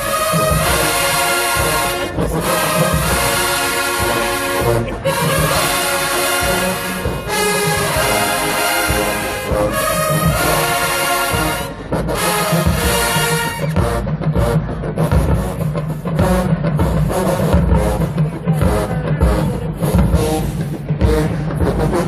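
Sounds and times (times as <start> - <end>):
marching band playing brass music: 0.0 - 22.0.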